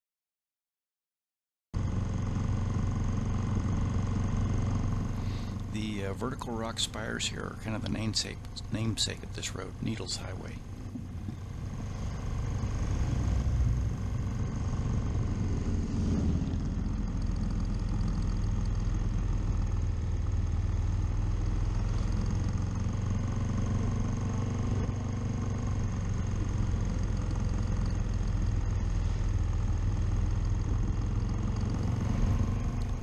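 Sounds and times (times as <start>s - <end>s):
motorcycle engine rumble: 1.8s - 33.0s
road noise: 1.8s - 33.0s.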